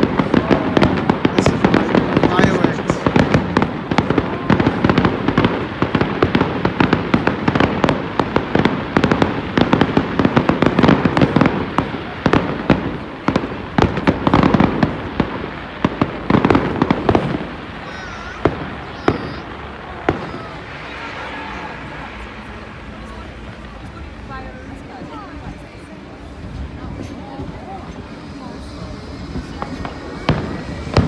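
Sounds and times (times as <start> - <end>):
continuous rumble: 0.0 - 31.0
fireworks bursting and crackling: 0.0 - 31.0.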